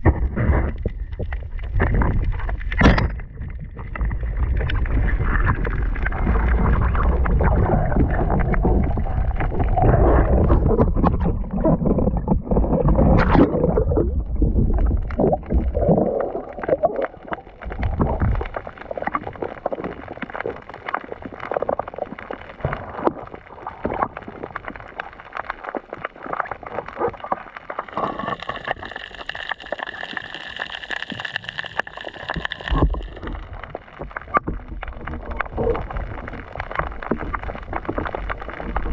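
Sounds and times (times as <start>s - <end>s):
small clicks and crackles: 0.0s - 38.9s
water gurgling and sloshing: 0.0s - 38.9s.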